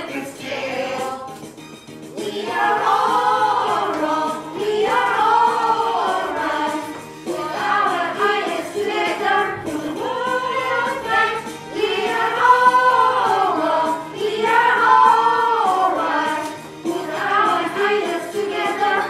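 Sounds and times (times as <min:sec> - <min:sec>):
group of voices singing: 0:00.0 - 0:01.5, 0:02.1 - 0:19.0
backing music: 0:00.0 - 0:19.0.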